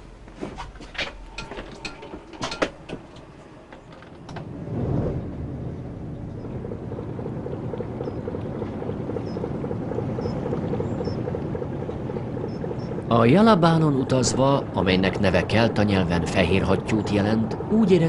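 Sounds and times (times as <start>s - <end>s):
boat engine running: 1.1s - 18.0s.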